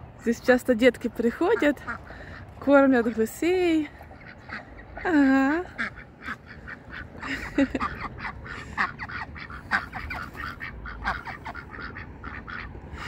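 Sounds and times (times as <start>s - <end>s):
ducks quacking: 1.0s - 13.0s.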